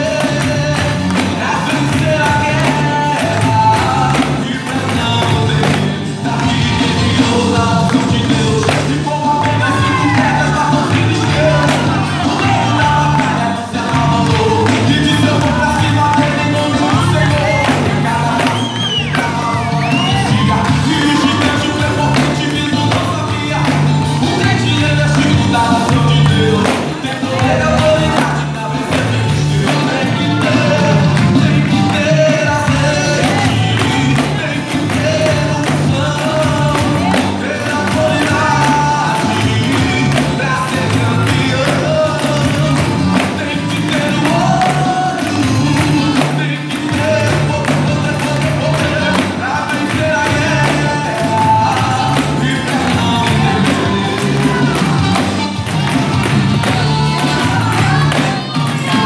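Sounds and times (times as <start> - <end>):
gospel song: 0.0 - 59.0.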